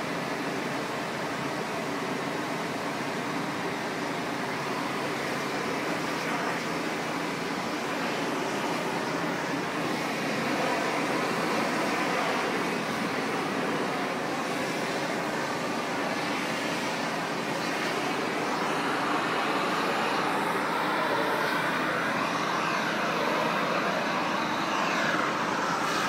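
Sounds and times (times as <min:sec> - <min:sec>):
pressure washer running: 0:04.2 - 0:26.0.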